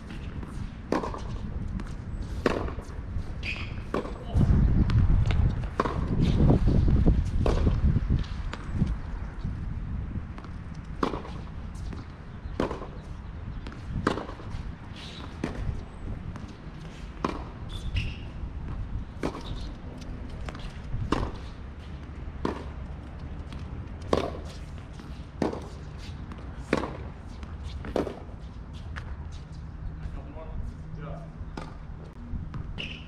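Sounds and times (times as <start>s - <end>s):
tennis balls struck by rackets: 0.0s - 9.1s, 10.3s - 29.1s, 31.5s - 33.0s
tennis balls bouncing on court: 0.0s - 9.4s, 10.2s - 29.2s, 31.4s - 33.0s.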